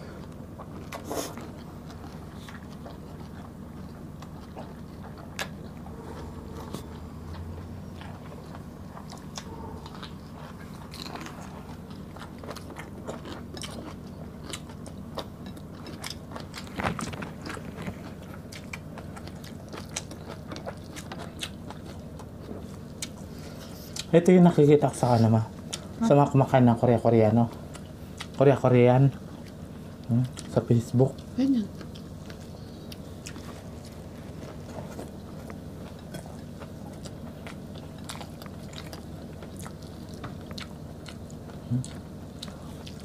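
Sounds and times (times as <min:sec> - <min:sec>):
people chewing and biting: 0:00.0 - 0:24.2, 0:27.3 - 0:43.0
low steady hum: 0:00.0 - 0:43.0.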